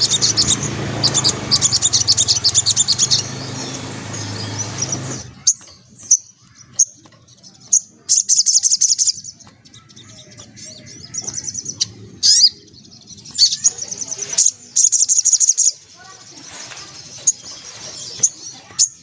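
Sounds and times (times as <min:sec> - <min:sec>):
bird chirping and trilling: 0:00.0 - 0:19.0.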